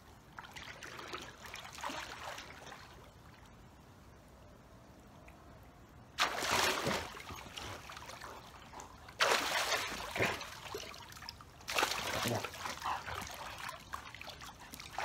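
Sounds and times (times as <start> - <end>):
pool water splashing: 0.0 - 4.1, 6.1 - 15.0.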